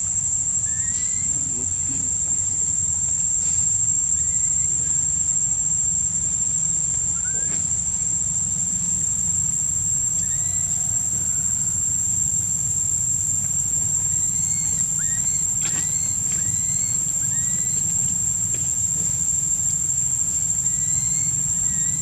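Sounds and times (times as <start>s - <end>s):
high-pitched insect drone: 0.0s - 22.0s
low steady rumble: 0.0s - 22.0s.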